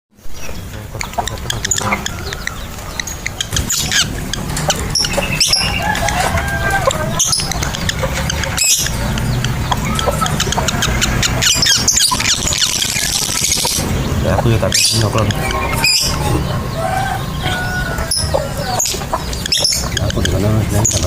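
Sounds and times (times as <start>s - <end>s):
lovebirds squawking and chirping: 0.2s - 21.0s
steady low rumble: 0.3s - 21.0s.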